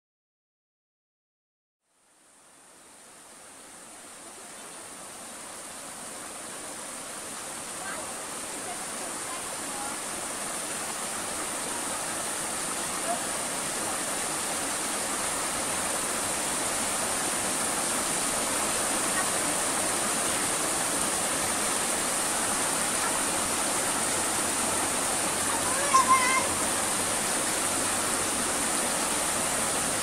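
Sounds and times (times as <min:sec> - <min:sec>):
stream water running over rocks: 0:02.0 - 0:30.0.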